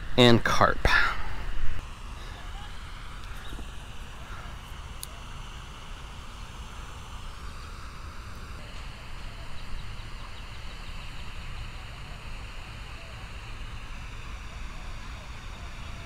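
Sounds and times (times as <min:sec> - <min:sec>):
higher hiss: 0:00.0 - 0:16.0.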